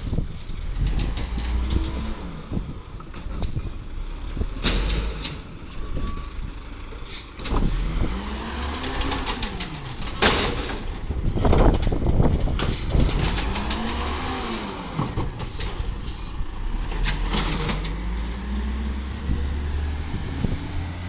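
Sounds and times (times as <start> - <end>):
garbage truck engine revving: 0.6 - 21.0.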